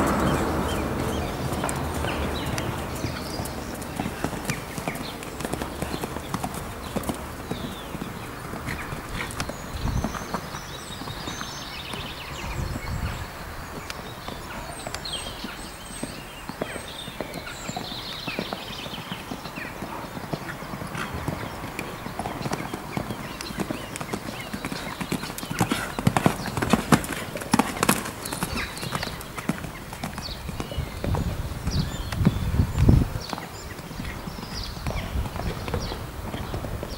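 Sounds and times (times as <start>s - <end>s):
horse hoofbeats on sand: 0.0s - 36.9s.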